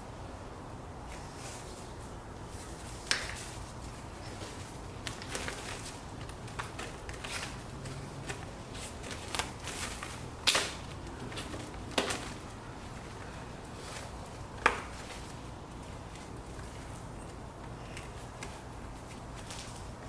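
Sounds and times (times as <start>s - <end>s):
handling sounds: 2.5s - 20.0s.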